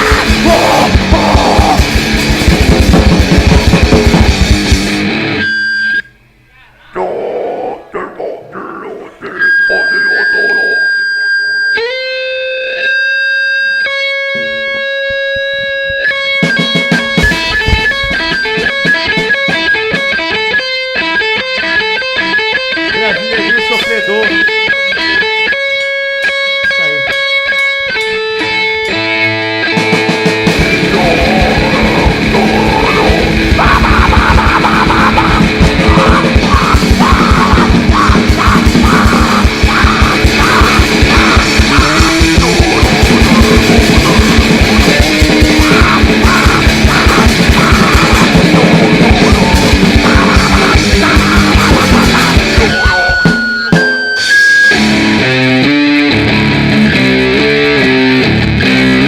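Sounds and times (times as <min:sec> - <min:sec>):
fast grindnoise band playing: 0:00.0 - 0:05.4, 0:14.3 - 0:24.6, 0:26.8 - 0:59.0
guitar riff: 0:00.0 - 0:07.0, 0:07.8 - 0:59.0.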